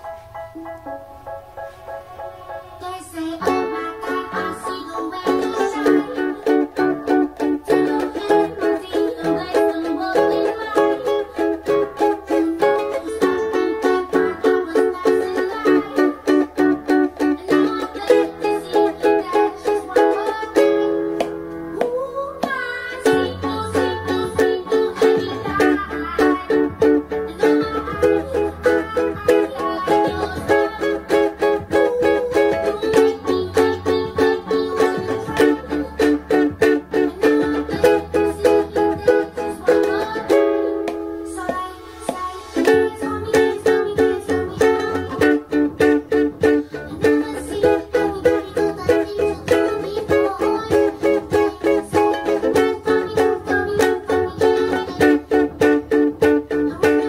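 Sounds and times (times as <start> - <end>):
ukulele strumming: 0.0 - 57.0.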